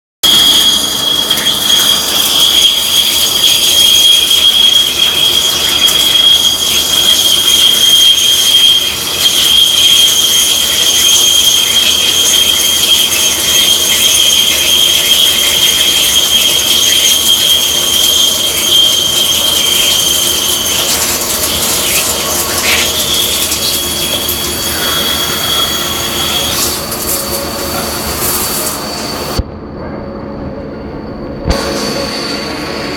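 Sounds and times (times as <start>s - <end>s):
high drill whine: 0.2s - 29.4s
coolant spray hissing: 1.0s - 29.0s.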